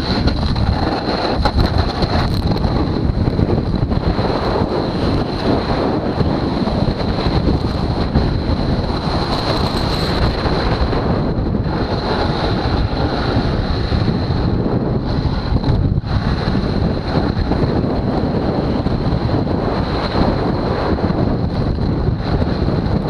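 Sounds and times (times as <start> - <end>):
snowboard running over hard snow: 0.0 - 23.0
wind blowing on microphone: 0.0 - 23.0.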